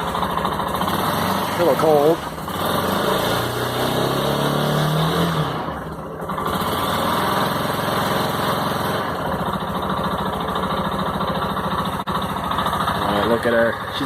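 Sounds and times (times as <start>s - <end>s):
motorcycle engine idling: 0.0s - 3.0s, 5.6s - 14.0s.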